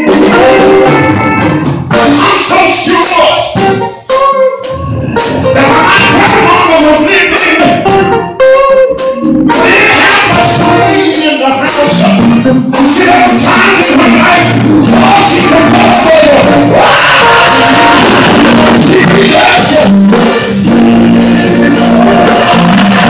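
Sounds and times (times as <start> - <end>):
man singing into microphone: 0.0 - 3.6, 4.8 - 8.0, 9.5 - 23.0
band playing gospel music: 0.0 - 23.0.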